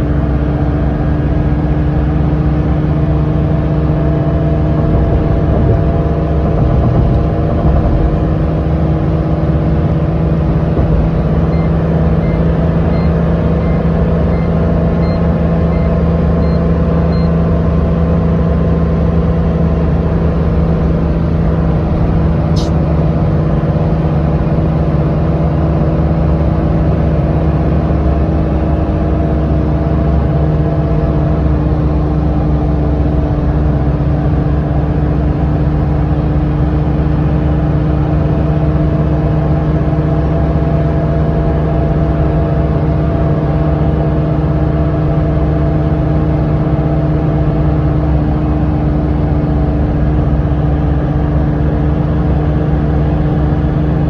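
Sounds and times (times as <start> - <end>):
road noise: 0.0 - 54.0
steady engine hum: 0.0 - 54.0.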